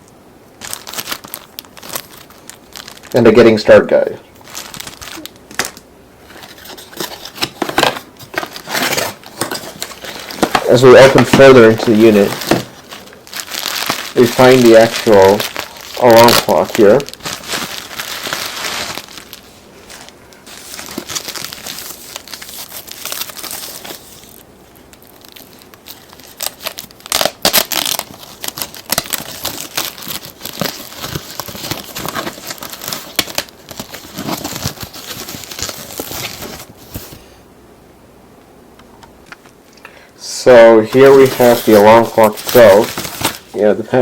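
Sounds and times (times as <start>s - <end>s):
packaging crinkling and rustling: 0.6s - 37.2s, 40.6s - 43.8s.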